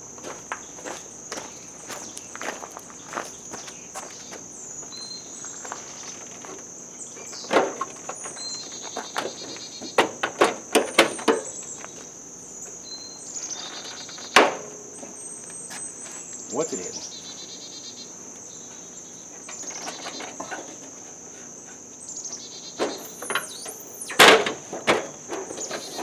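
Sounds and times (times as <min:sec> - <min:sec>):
insect chirps: 0:00.0 - 0:26.0
insects droning: 0:00.0 - 0:26.0.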